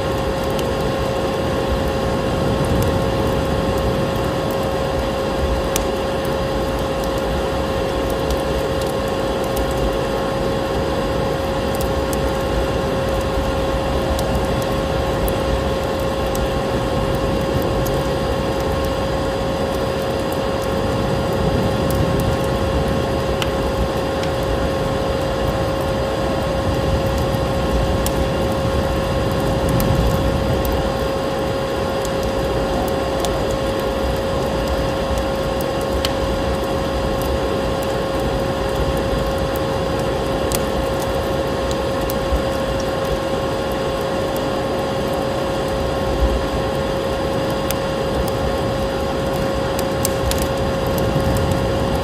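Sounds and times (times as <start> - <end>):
fire crackling and popping: 0.0 - 52.0
storm wind rumble: 0.0 - 52.0.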